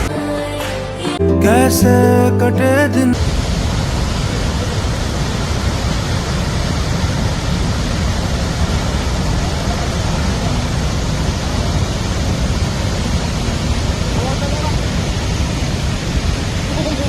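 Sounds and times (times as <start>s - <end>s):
waterfall rushing: 1.2s - 17.0s.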